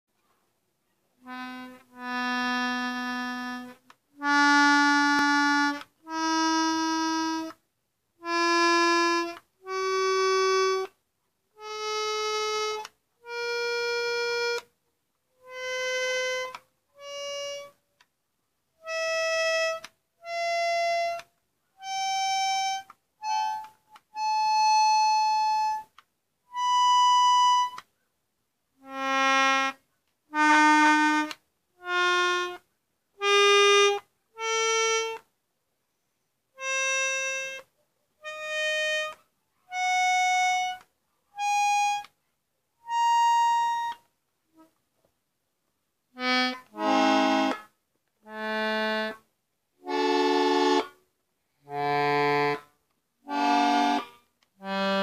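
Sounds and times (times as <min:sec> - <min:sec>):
accordion single notes: 0:01.2 - 0:07.6, 0:08.2 - 0:11.0, 0:11.6 - 0:14.8, 0:15.4 - 0:18.1, 0:18.8 - 0:27.9, 0:28.8 - 0:35.3, 0:36.5 - 0:42.2, 0:42.8 - 0:44.8, 0:46.2 - 0:51.0, 0:51.6 - 0:55.0.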